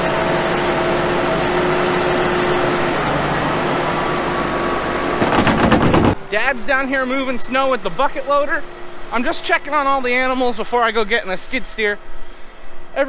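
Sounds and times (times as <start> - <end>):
diesel tractor engine running: 0.0 - 13.0
steady tone: 0.0 - 13.0.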